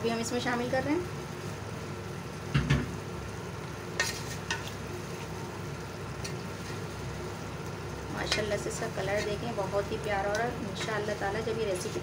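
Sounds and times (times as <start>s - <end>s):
food sizzling in metal pot: 0.0s - 12.0s.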